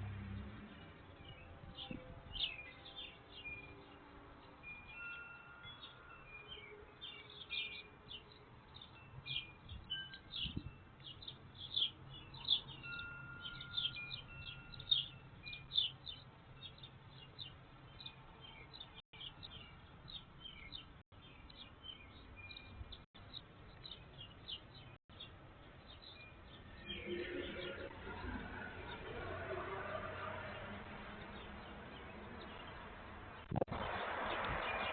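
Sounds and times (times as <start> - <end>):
wild birds chirping: 0.0 - 34.9.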